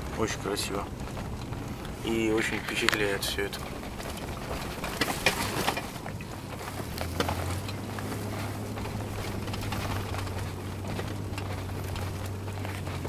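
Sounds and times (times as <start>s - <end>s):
car engine and road drone: 0.0s - 13.0s
low steady hum: 0.0s - 13.0s
sharp knocks and rattles: 0.0s - 13.0s.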